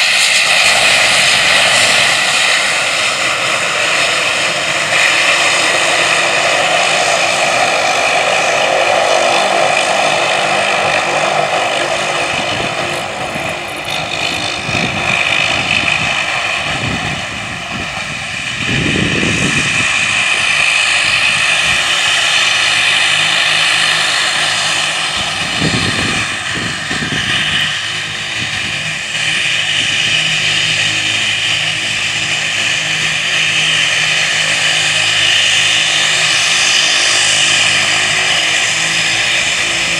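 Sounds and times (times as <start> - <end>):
turboprop engines whining: 0.0 - 39.9
low rumbles: 0.4 - 39.9.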